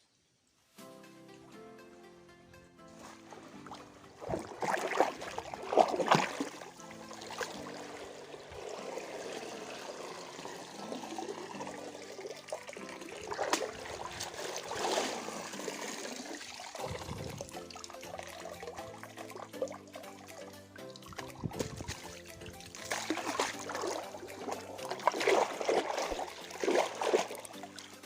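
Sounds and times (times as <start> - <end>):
background music: 0.6 - 28.0
river water splashing and trickling: 2.8 - 28.0.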